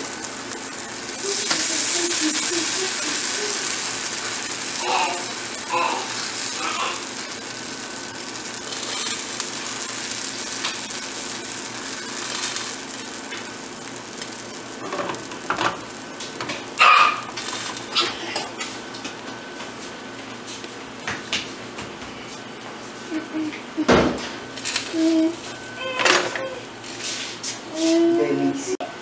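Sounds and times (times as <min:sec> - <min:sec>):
batter sizzling in a frying pan: 0:00.0 - 0:28.8.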